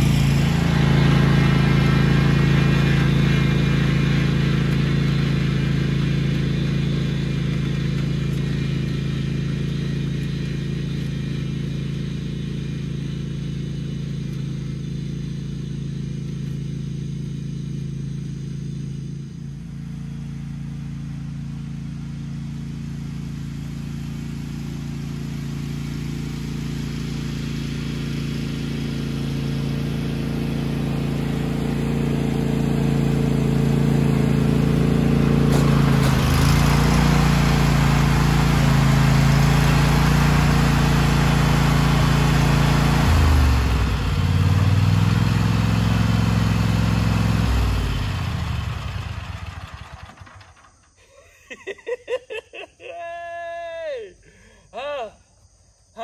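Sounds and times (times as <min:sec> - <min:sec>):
riding mower engine running: 0:00.0 - 0:52.4.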